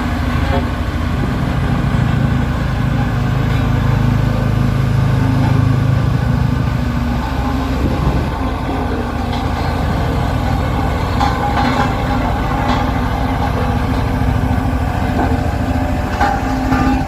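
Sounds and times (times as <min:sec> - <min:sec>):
diesel engine droning loudly: 0:00.0 - 0:17.0.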